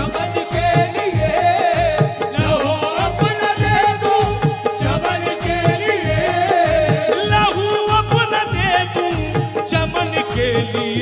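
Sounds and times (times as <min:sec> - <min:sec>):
hand drums beating: 0:00.0 - 0:11.0
person singing: 0:00.0 - 0:11.0.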